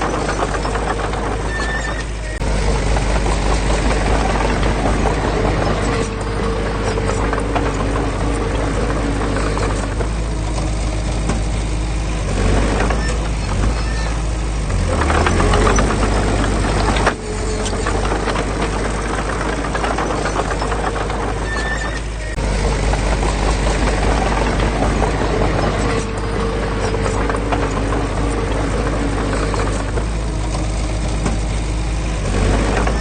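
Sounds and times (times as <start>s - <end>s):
diesel engine running under load: 0.0s - 33.0s
rapid clattering knocks: 0.0s - 33.0s.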